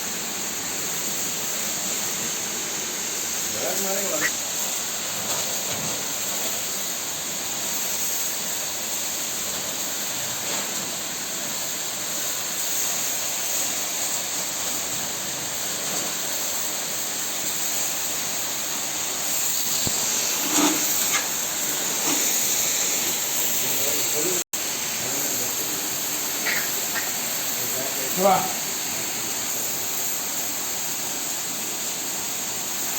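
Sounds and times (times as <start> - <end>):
high-pressure water jet spraying: 0.0 - 32.9.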